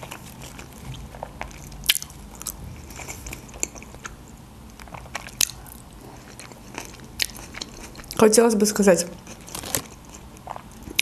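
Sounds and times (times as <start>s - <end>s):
person chewing food: 0.0s - 8.2s, 9.2s - 11.0s.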